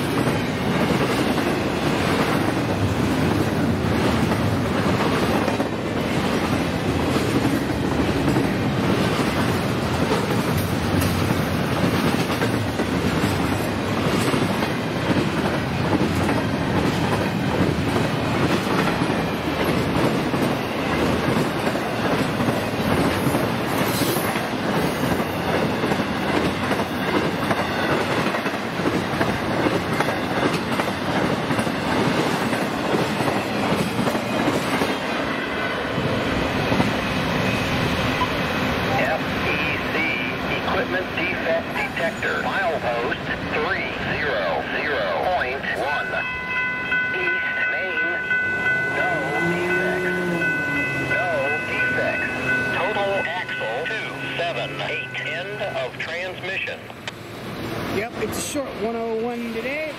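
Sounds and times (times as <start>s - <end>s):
freight train cars rolling on rails: 0.0s - 59.9s.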